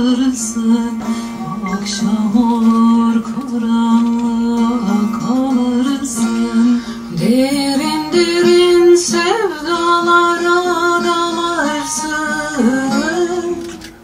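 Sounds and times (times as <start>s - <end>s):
person singing long notes: 0.0s - 13.8s
guitar accompaniment: 0.0s - 14.0s.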